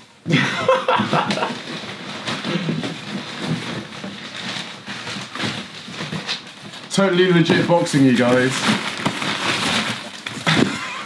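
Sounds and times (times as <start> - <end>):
cardboard and paper rustling: 0.4 - 11.0.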